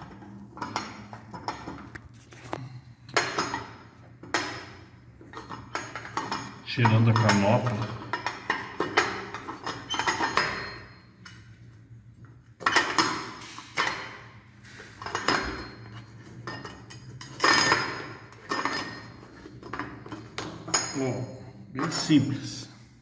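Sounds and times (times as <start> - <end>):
metal scraping and clinking: 0.0 - 22.9.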